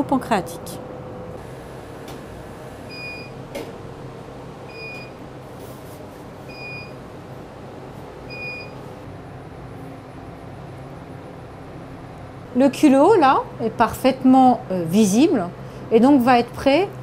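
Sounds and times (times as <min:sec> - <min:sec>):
fan hum: 0:00.0 - 0:17.0.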